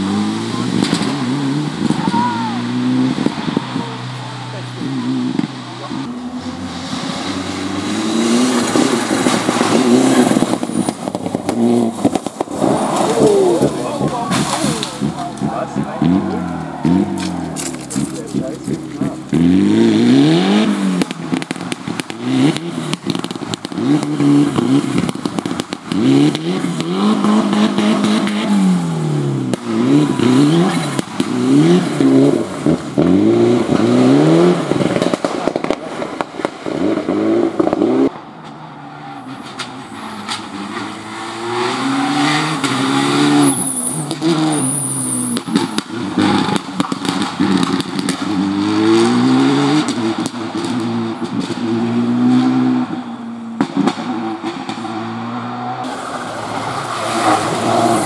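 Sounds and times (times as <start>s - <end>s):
distant rally car passing: 0.0s - 58.0s
rally car engine revving: 0.0s - 58.0s.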